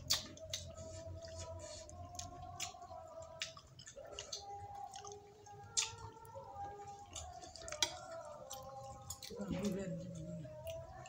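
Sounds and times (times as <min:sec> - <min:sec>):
kitten chewing food: 0:00.0 - 0:11.0.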